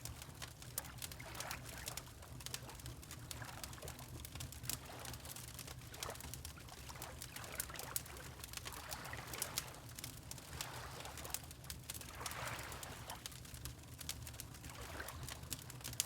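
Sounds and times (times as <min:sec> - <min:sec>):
water lapping gently: 0:00.0 - 0:16.0.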